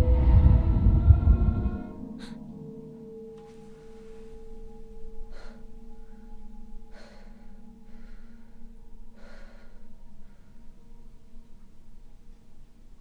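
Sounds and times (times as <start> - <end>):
low droning tone: 0.0 - 13.0.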